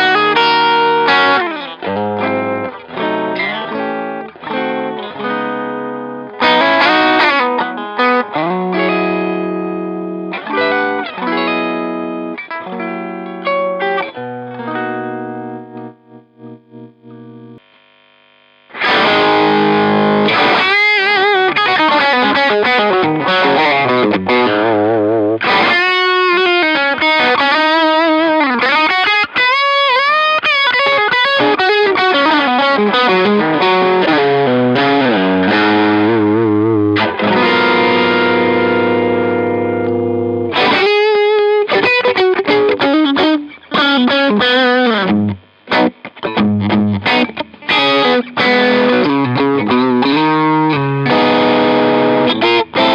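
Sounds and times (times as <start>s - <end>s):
overdriven electric guitar: 0.0s - 52.9s.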